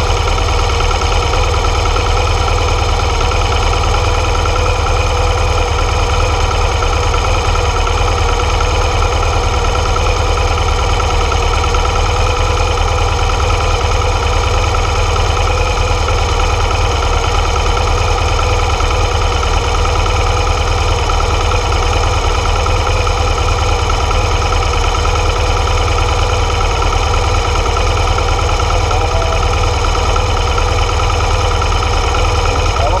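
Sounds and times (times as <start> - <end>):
motorcycle engine rumbling: 0.0 - 33.0.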